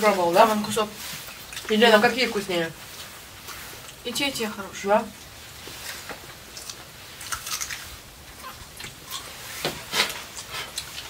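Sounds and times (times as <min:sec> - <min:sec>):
people chewing food: 0:00.0 - 0:04.2, 0:05.1 - 0:11.0.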